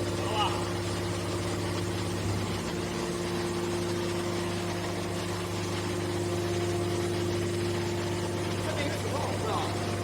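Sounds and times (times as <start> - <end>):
baler motor and pump humming: 0.0 - 10.0.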